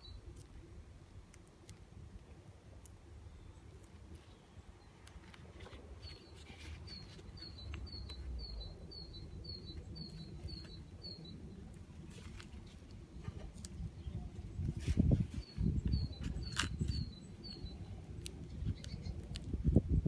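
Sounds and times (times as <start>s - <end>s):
small bird chirping: 0.0s - 0.5s, 3.2s - 19.7s.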